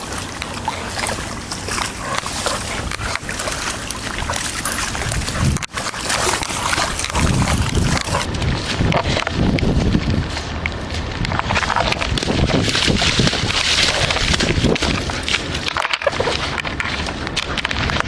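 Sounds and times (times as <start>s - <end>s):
steady outdoor hiss: 0.0s - 18.0s
wind buffeting microphone: 0.0s - 18.0s.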